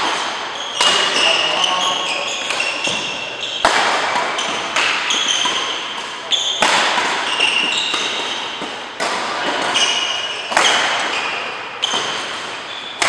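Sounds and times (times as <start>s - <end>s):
rackets hitting shuttlecock: 0.0s - 13.0s
sneakers squeaking on court: 0.0s - 13.0s.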